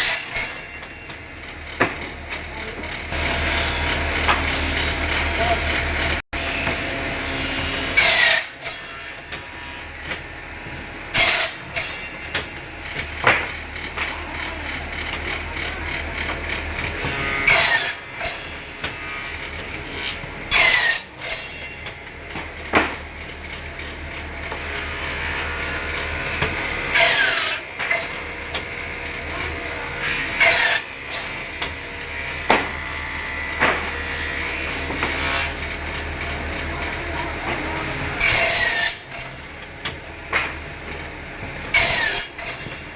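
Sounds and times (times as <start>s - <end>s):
woodworking machine humming: 0.0s - 42.9s.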